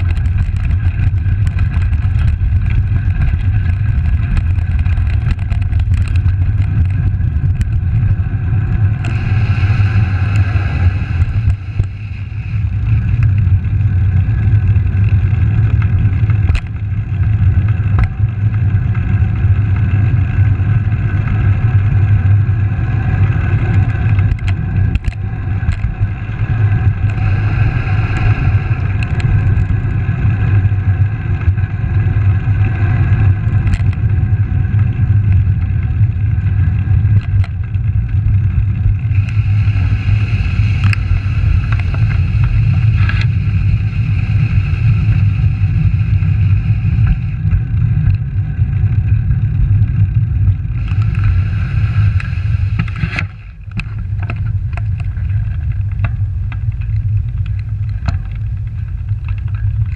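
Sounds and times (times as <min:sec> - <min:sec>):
low road rumble: 0:00.0 - 0:59.9
wind rush: 0:00.0 - 0:59.9.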